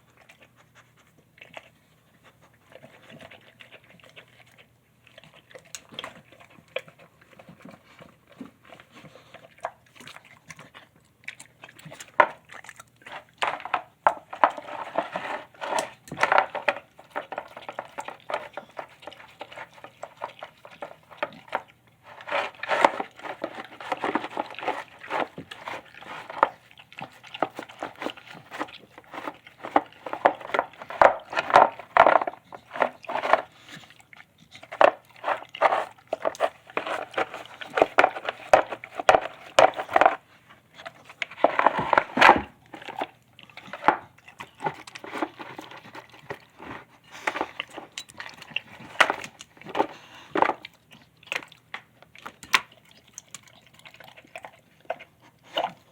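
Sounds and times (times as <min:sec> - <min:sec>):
dog chewing and slurping: 0:00.0 - 0:55.9.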